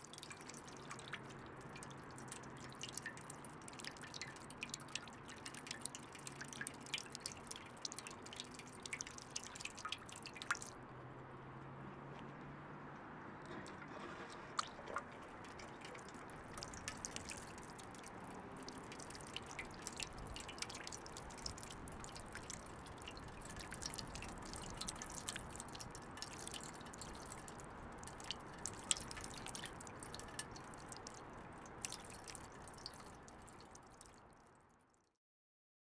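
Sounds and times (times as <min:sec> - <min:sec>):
water droplets dripping: 0:00.0 - 0:10.8, 0:14.6 - 0:35.0
water fountain splashing: 0:00.0 - 0:10.8, 0:14.6 - 0:34.4.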